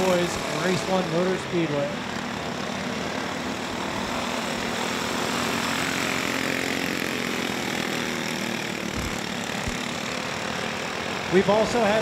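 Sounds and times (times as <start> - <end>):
kart engines racing: 0.0 - 12.0.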